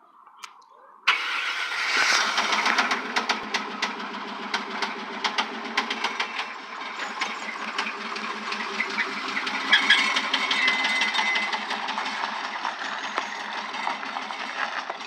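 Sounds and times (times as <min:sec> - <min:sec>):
engine idling with knock: 0:02.3 - 0:15.0.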